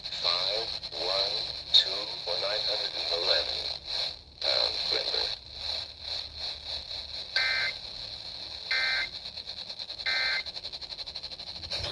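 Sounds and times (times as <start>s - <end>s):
radio hiss: 0.0s - 6.2s, 7.2s - 10.5s
warbling digital data bursts: 0.2s - 11.9s.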